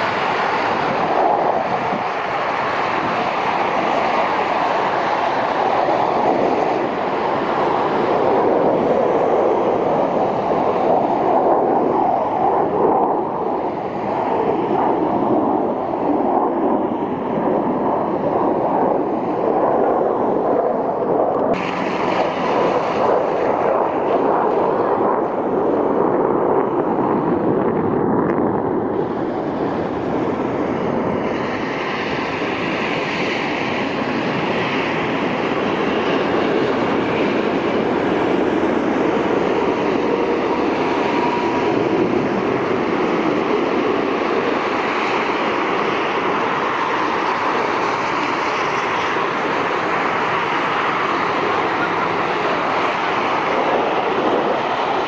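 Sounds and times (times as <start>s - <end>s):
jet engines overhead: 0.0s - 55.0s.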